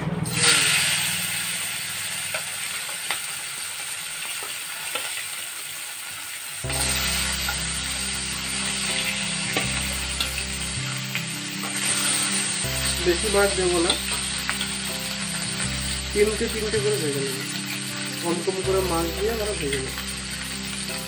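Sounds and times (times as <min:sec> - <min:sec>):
fish sizzling in hot oil: 0:00.3 - 0:21.0.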